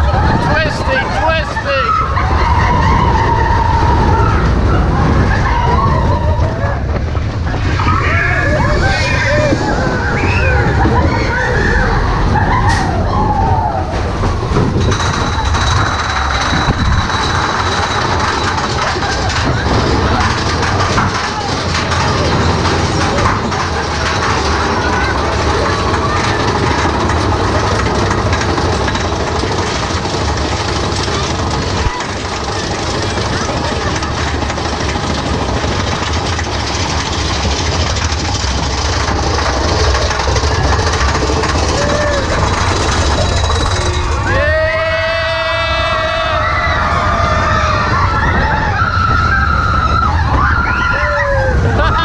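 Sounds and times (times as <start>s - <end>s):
roller coaster rumbling and clattering: 0.0s - 52.0s.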